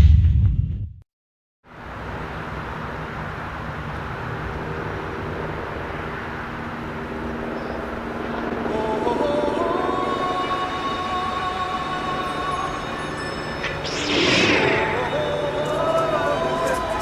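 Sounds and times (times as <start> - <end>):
distant traffic hum: 1.7 - 17.0.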